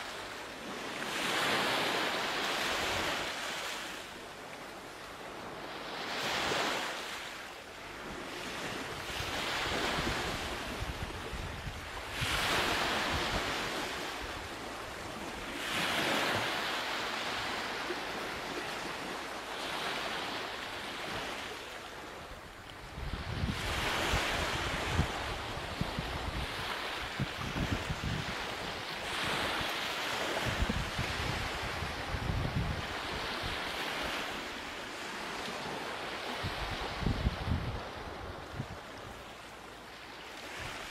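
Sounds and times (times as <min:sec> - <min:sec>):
waves washing in: 0:00.0 - 0:40.9.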